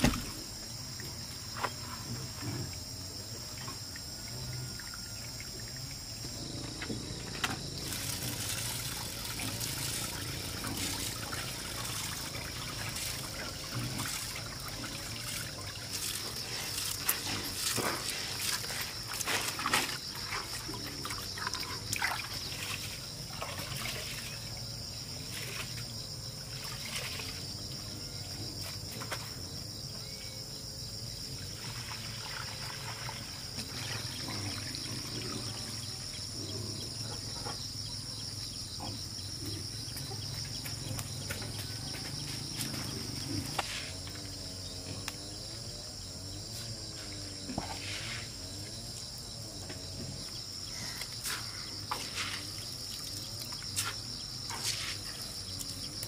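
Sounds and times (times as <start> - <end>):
faint outdoor background: 0.0 - 56.0
insects chirring: 0.0 - 56.0.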